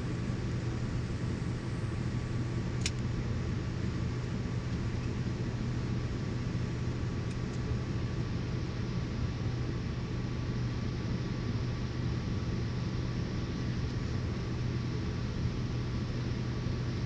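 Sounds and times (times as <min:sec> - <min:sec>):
aircraft cabin drone: 0:00.0 - 0:17.0.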